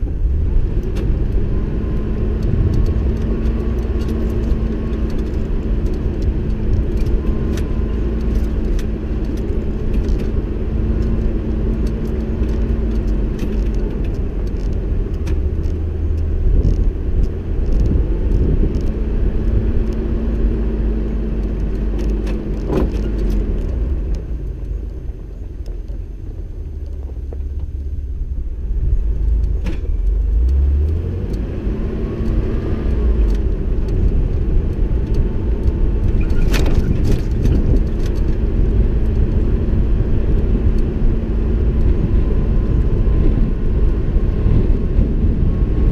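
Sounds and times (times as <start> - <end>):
vehicle engine drone: 0.0 - 45.9
vehicle rattling over dirt road: 0.0 - 45.9.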